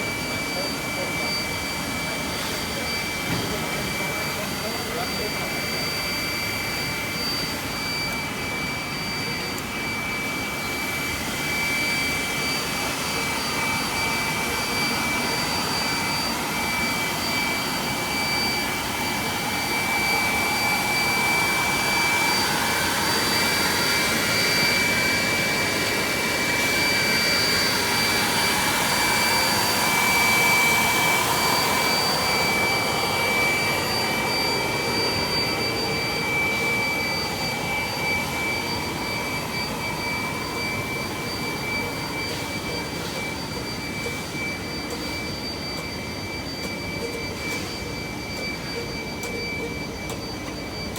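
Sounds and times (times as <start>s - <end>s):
blower-like machinery rush: 0.0s - 50.9s
high-pitched machine whine: 0.0s - 50.9s.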